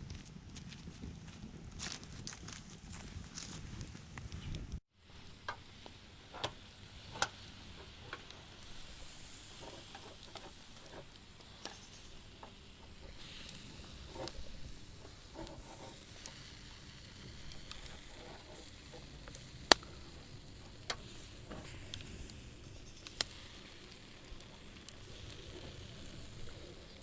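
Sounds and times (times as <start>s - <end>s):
campfire crackling: 4.9s - 27.0s
faint steady hiss: 4.9s - 27.0s.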